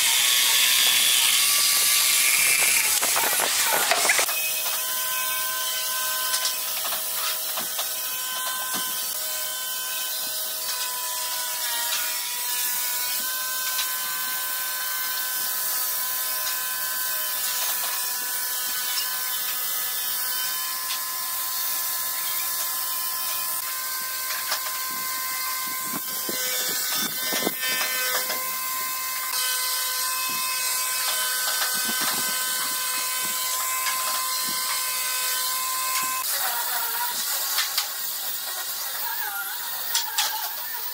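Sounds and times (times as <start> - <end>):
angle grinder sanding wood: 0.0 - 40.9.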